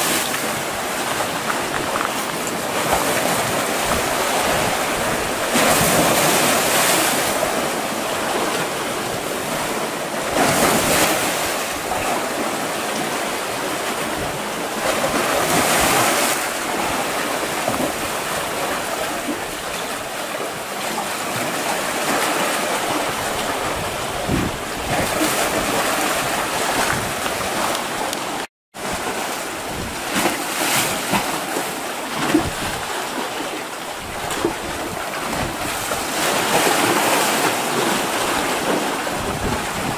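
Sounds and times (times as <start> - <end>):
sea waves splashing on rocks: 0.0 - 39.9.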